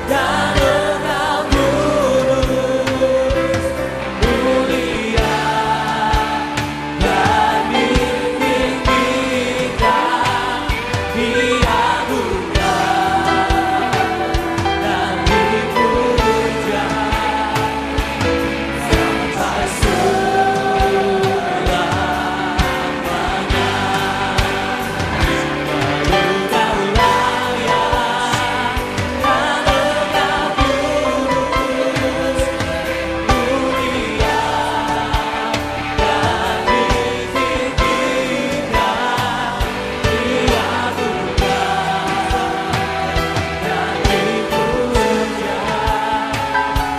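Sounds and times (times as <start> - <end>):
women's choir singing: 0.0 - 46.9
drum beat: 5.1 - 46.9.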